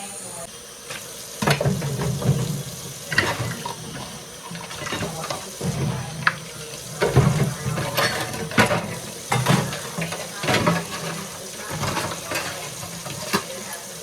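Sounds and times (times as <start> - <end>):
tap water running into sink: 0.6 - 14.0
dishes clinking: 0.9 - 14.0.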